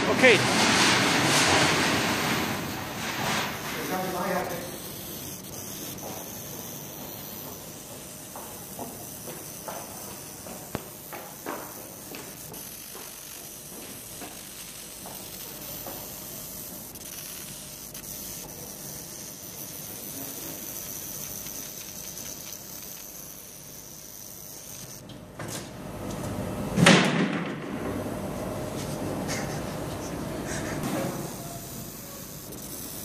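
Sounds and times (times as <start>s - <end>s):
laser marking machine hiss and whine: 0.0s - 33.0s.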